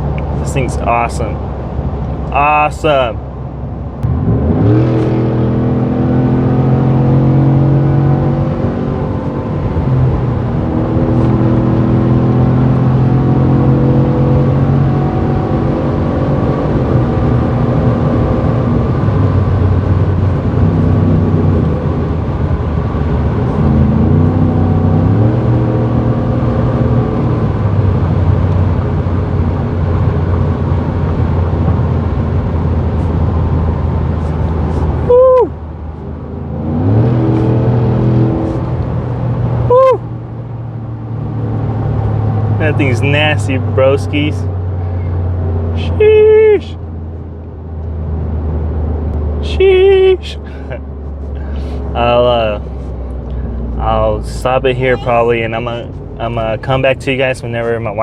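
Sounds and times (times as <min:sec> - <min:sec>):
deep truck engine revving: 0:03.9 - 0:58.0.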